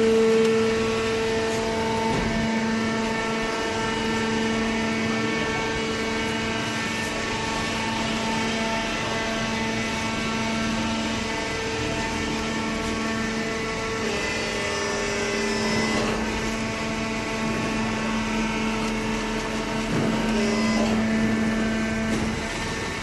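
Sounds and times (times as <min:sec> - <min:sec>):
hydraulic pump motor humming: 0:00.0 - 0:23.0.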